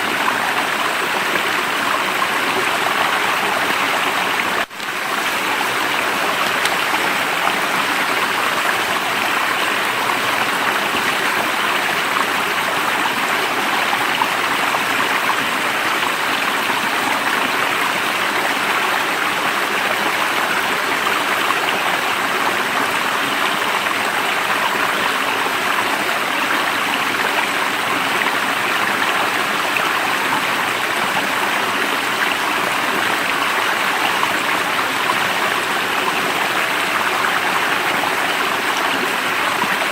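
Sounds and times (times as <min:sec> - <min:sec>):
stream of water running: 0:00.0 - 0:39.9.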